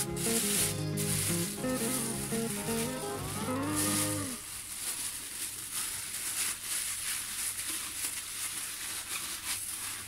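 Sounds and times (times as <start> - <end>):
bamboo mat rubbing: 0.0 - 10.0
plastic bag crinkling: 0.0 - 10.0.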